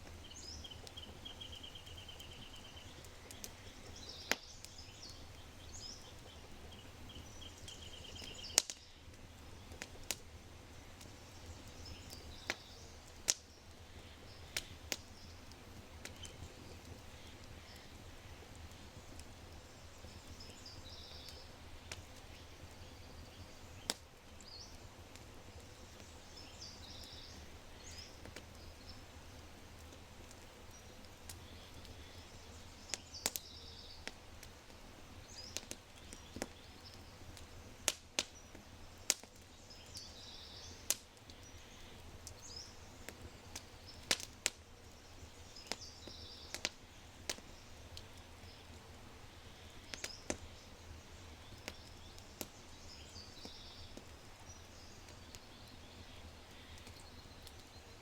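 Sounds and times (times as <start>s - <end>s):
birds chirping: 0.0s - 10.1s, 10.7s - 34.2s, 35.1s - 58.0s
fire crackling and popping: 0.0s - 58.0s.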